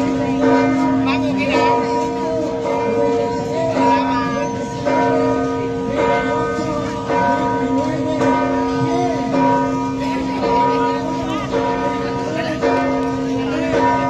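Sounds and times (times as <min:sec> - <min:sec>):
large church bell ringing: 0:00.0 - 0:14.0.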